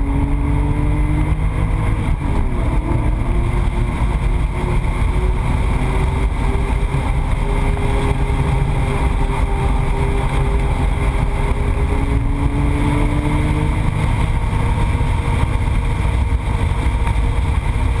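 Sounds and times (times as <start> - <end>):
car engine running: 0.0 - 18.0
road and wind noise: 0.0 - 18.0.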